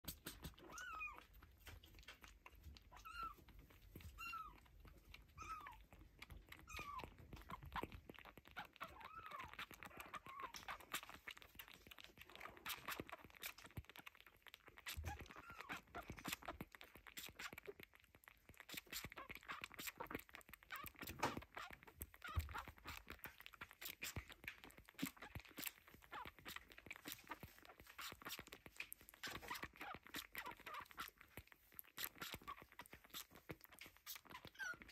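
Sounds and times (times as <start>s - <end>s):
kittens suckling wet clicking: 0.0s - 34.9s.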